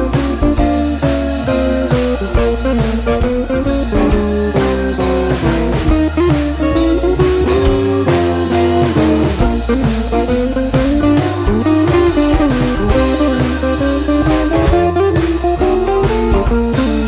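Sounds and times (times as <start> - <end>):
guitar over drums: 0.0 - 17.0.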